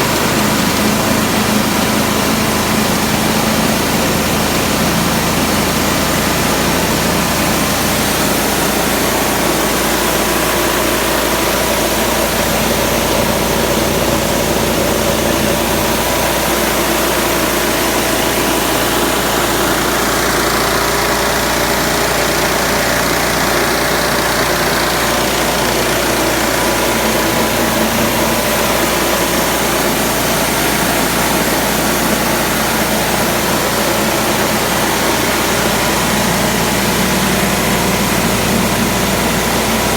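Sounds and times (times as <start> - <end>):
petrol engine running steadily: 0.0 - 39.9.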